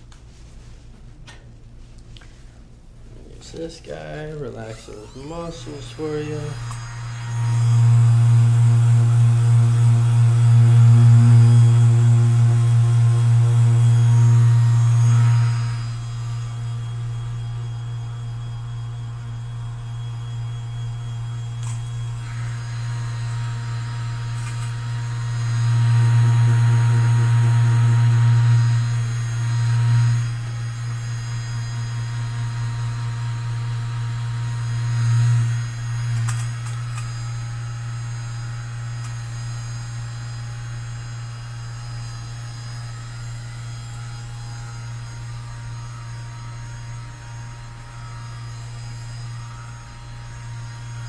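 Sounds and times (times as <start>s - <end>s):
electric massager humming: 2.9s - 51.0s.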